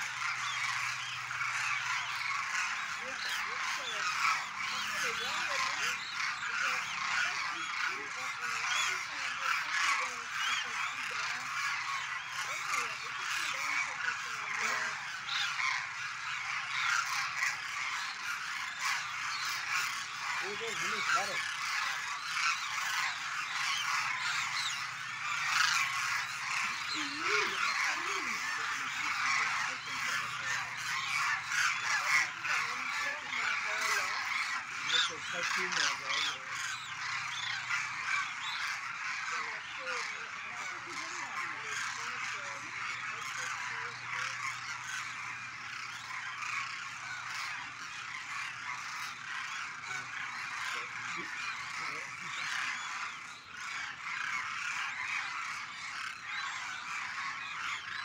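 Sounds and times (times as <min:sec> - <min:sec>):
cranes honking in chorus: 0:00.0 - 0:58.0.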